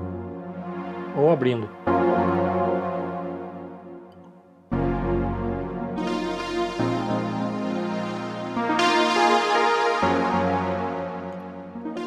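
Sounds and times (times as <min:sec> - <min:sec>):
sustained synth keyboard chords: 0:00.0 - 0:12.0.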